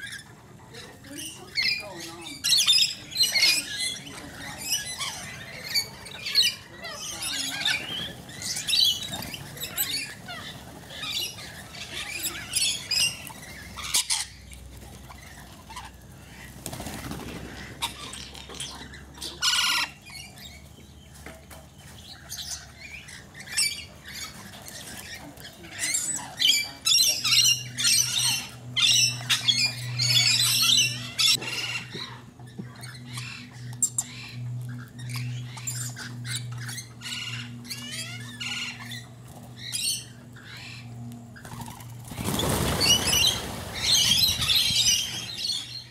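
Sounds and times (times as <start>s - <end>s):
parrots screeching: 0.0s - 20.6s, 22.0s - 45.8s
steady low hum: 0.0s - 45.9s.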